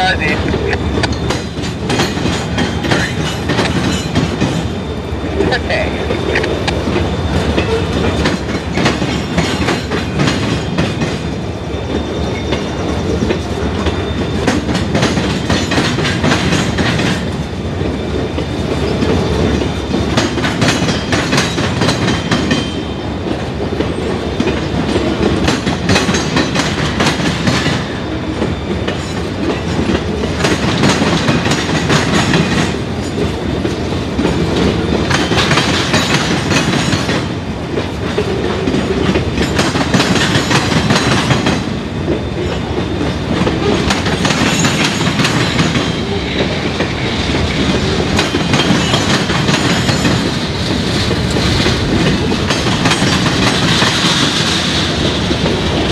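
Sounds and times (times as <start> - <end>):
train wheels clattering over rail joints: 0.2 - 55.9.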